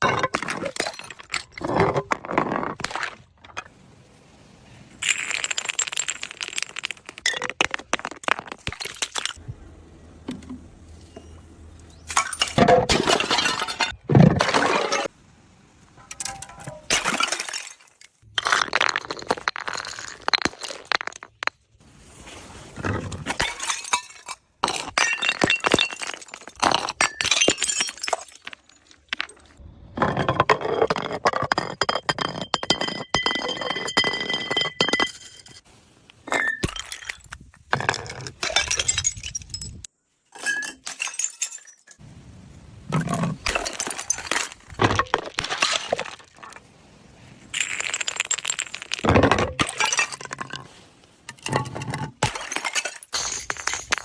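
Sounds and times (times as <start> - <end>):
glass bottles shattering: 0.0 - 3.2, 5.0 - 9.4, 10.4 - 15.1, 16.2 - 21.6, 22.8 - 35.6, 36.2 - 42.0, 42.9 - 46.6, 47.5 - 54.0.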